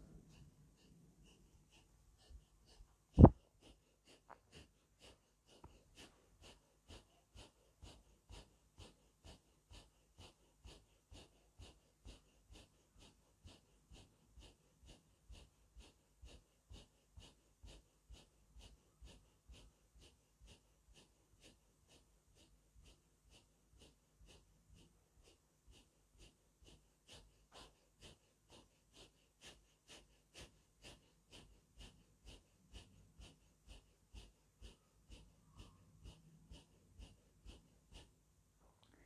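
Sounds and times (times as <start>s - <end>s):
forceful breathing through nose: 0.0s - 38.3s.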